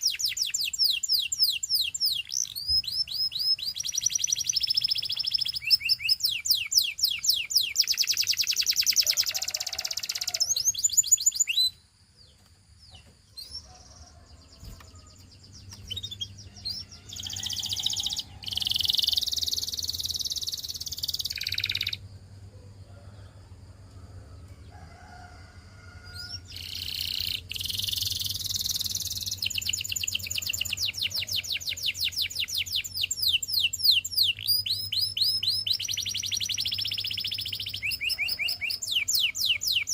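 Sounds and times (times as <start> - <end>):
canary singing trills: 0.0 - 22.1, 26.1 - 39.9.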